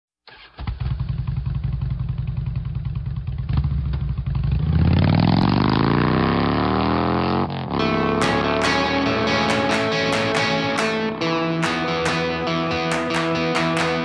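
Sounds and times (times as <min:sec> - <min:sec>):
motorcycle engine idling and revving: 0:00.3 - 0:12.4.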